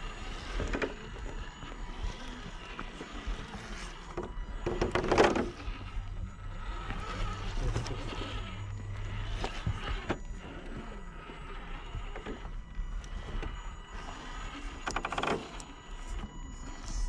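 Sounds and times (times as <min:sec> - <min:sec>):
electric motor whirring: 0:00.0 - 0:17.0.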